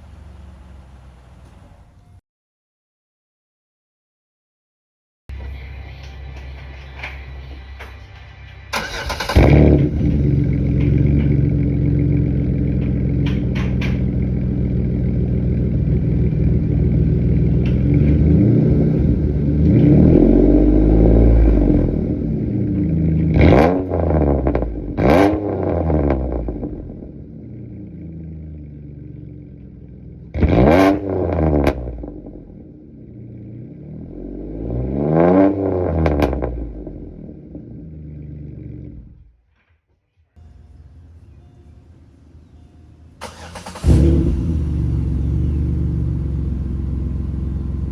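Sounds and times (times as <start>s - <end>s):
car engine idling and revving: 0.0s - 2.2s, 5.3s - 39.4s, 40.4s - 47.9s.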